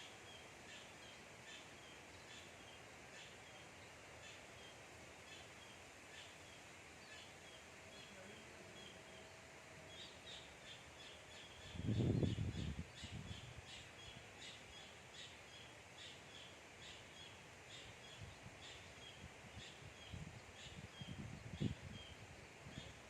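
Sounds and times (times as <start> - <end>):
bird chirping: 0.0 - 23.0.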